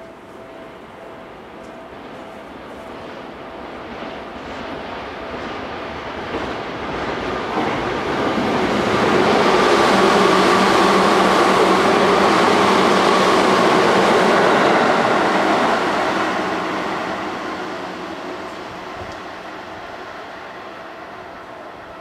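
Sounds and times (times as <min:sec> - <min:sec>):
train passing on rails: 0:00.0 - 0:22.0.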